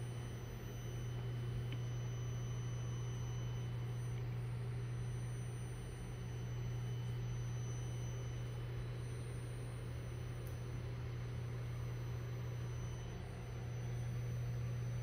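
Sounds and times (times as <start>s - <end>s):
faint high whine: 0.0s - 15.0s
low electrical hum: 0.0s - 15.0s.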